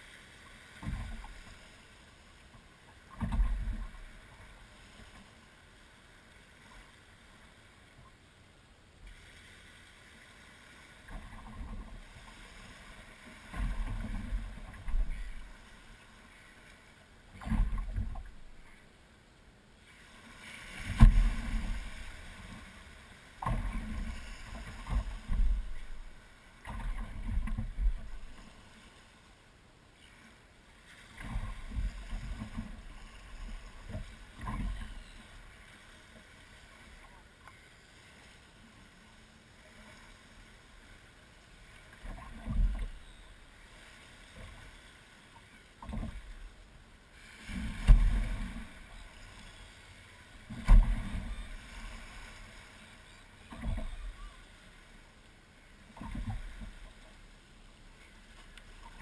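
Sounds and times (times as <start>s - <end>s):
waves slapping boat hull: 0.0s - 8.2s, 9.0s - 19.0s, 19.8s - 29.4s, 30.0s - 59.0s.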